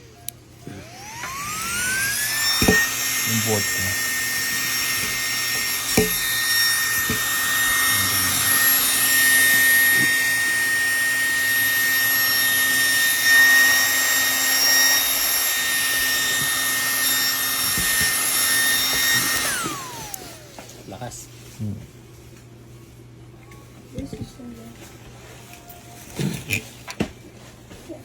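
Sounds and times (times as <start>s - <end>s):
electric fan running: 0.0s - 28.0s.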